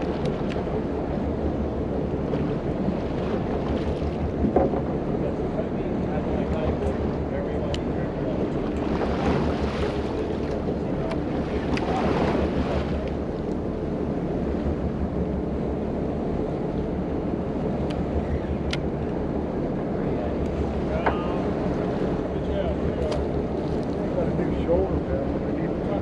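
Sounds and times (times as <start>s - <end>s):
sea water washing along boat: 0.0s - 26.0s.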